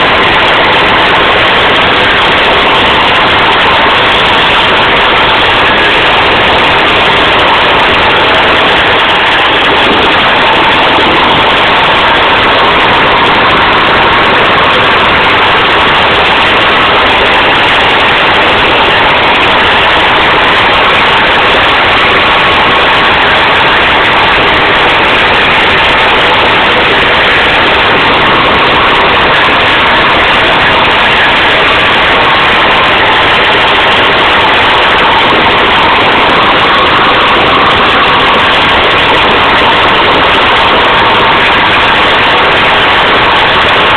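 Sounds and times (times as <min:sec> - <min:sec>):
armoured vehicle diesel din: 0:00.0 - 0:43.9.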